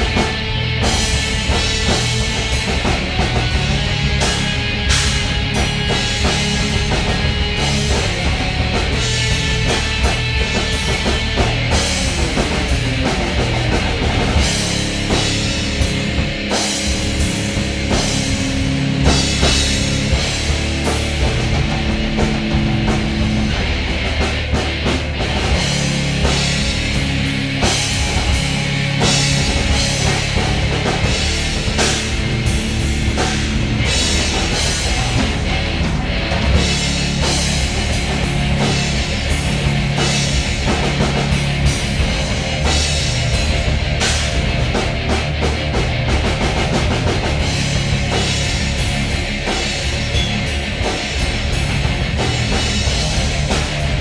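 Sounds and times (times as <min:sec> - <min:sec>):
drum kit beat: 0:00.0 - 0:54.0
sustained low notes: 0:00.0 - 0:54.0.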